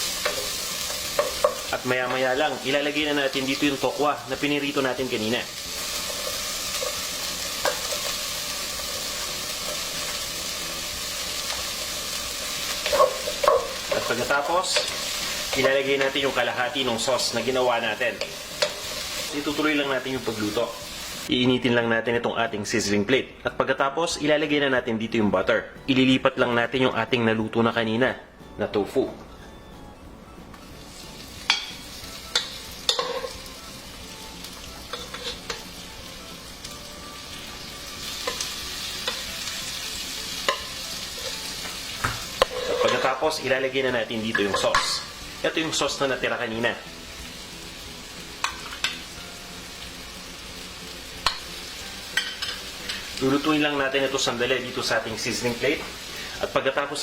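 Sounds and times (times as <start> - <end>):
vegetables sizzling in hot oil: 0.0 - 21.3, 30.8 - 57.0.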